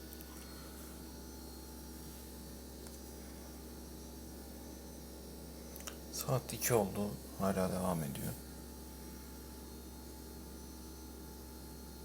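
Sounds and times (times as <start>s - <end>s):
refrigerator humming: 0.0s - 12.0s.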